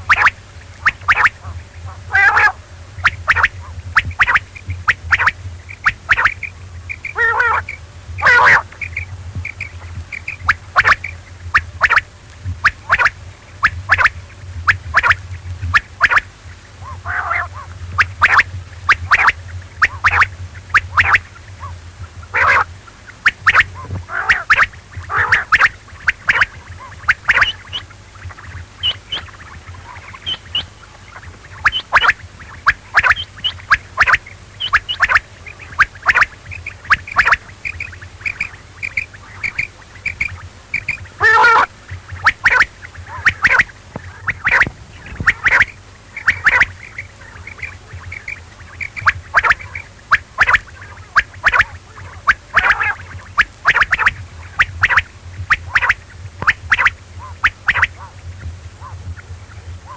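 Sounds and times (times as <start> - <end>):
low hum: 0.0 - 59.9
quail calling: 0.0 - 59.9.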